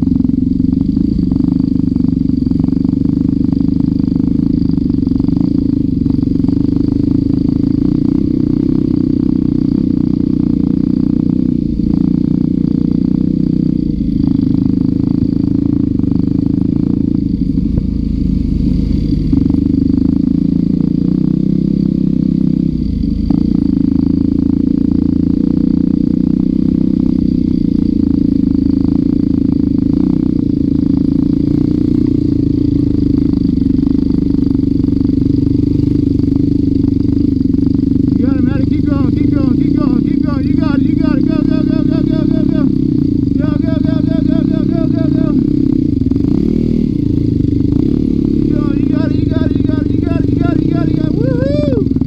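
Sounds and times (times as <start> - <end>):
dirt bike engine running: 0.0 - 52.0.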